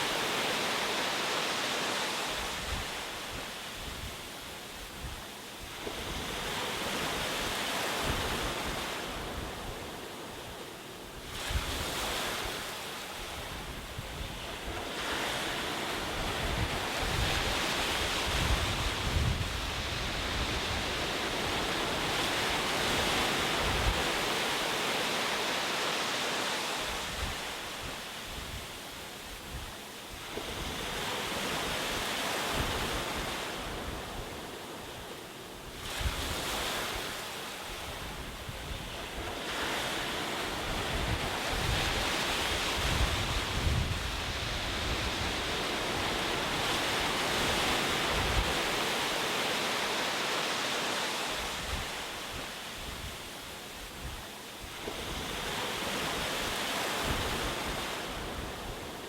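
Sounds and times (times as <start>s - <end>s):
waves breaking and washing ashore: 0.0s - 59.0s.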